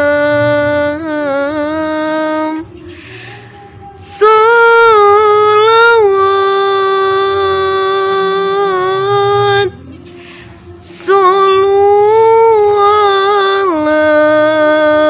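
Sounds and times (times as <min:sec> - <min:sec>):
woman singing devotional chant: 0:00.0 - 0:15.0.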